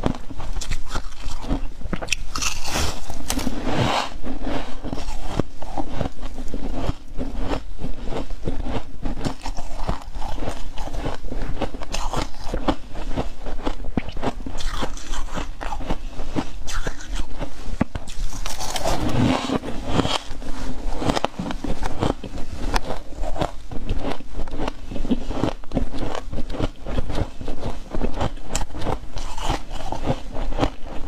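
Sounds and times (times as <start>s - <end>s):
ice being chewed crunching: 0.0s - 31.0s.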